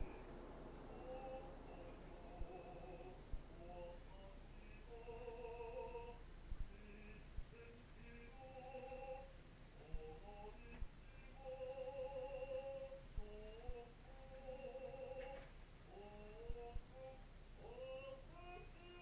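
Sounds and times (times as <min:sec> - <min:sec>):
person humming: 0:00.0 - 0:19.0.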